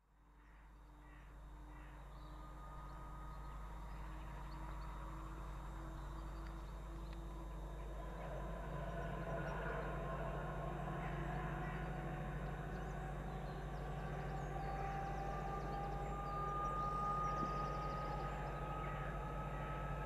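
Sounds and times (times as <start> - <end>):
diesel locomotive engine drone: 0.2 - 20.0.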